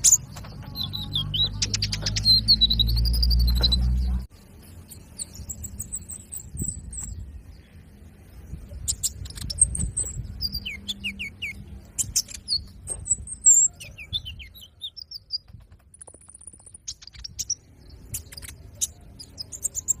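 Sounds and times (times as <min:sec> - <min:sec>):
bird chirping and twittering: 0:00.0 - 0:20.0
bird trill: 0:00.0 - 0:20.0.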